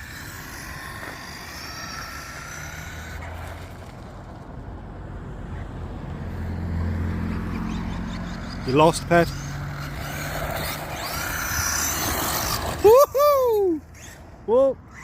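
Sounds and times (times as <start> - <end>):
rc car high whine: 0.0 - 4.8, 7.3 - 15.0
car engine hum: 0.0 - 15.0.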